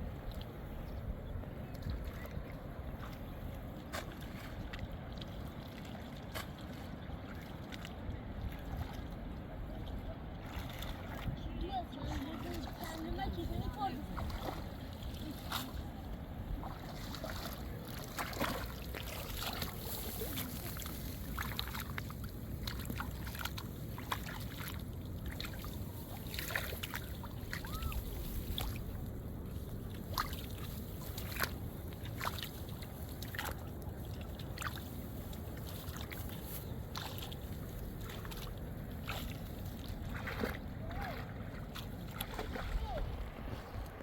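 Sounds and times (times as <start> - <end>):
steady low rumble: 0.0 - 44.0
water sloshing and splashing: 0.0 - 44.0.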